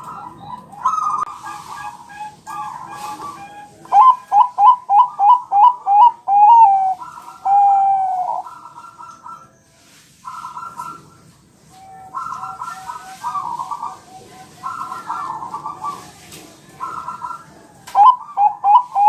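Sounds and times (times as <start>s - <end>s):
dove cooing: 0.0s - 9.6s, 10.2s - 19.0s.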